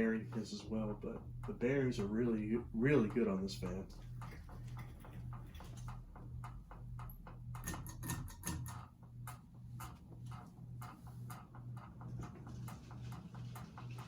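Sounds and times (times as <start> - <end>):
ceiling fan motor hum: 0.0 - 14.0
fan canopy clicking against ceiling: 0.0 - 14.0.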